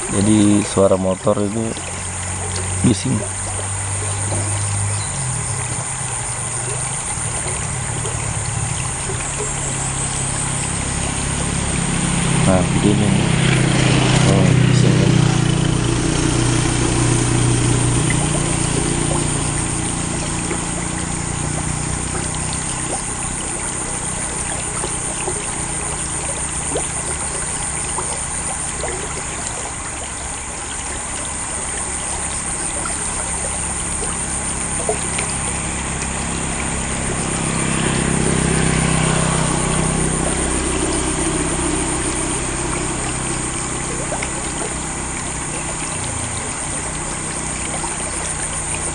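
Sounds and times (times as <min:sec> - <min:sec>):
motorcycles passing: 0:00.0 - 0:48.9
running water trickling: 0:00.0 - 0:48.9.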